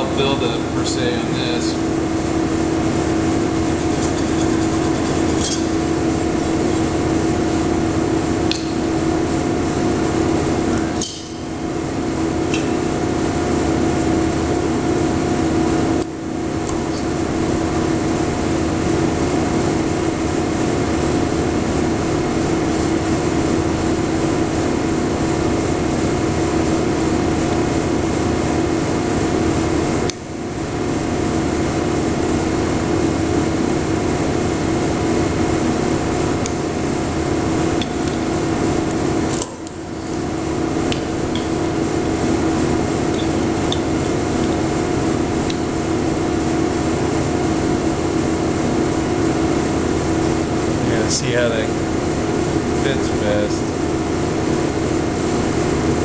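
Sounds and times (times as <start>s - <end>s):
welding arc hissing and humming: 0.0s - 56.0s.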